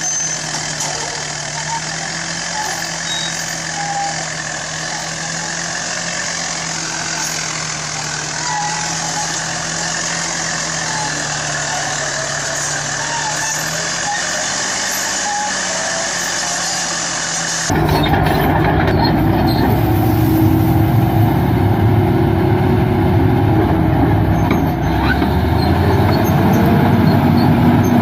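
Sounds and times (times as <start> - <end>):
bulldozer diesel engine droning: 0.0 - 28.0.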